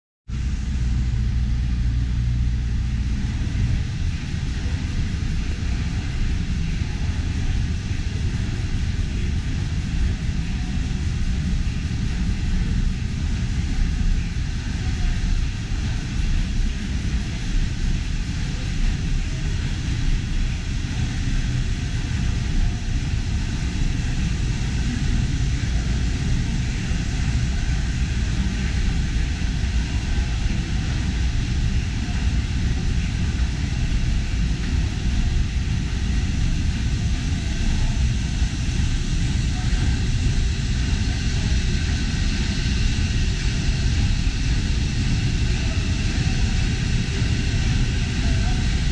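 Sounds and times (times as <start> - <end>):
steam engine machinery rumble: 0.3 - 48.9
machinery hiss: 0.4 - 48.9.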